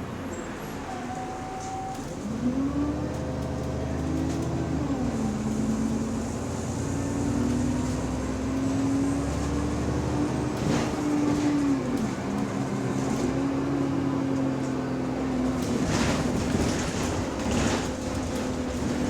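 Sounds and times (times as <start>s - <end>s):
bus differential whine: 0.0s - 19.0s
road rumble: 0.0s - 19.0s.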